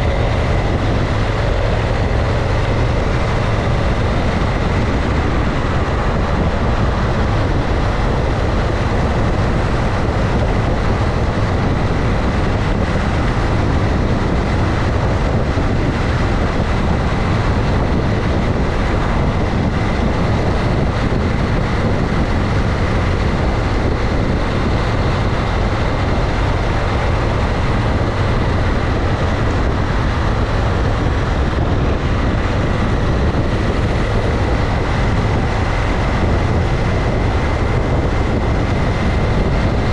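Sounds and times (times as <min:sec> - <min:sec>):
motorcycle engine drone: 0:00.0 - 0:39.9
wind and road noise: 0:00.0 - 0:39.9.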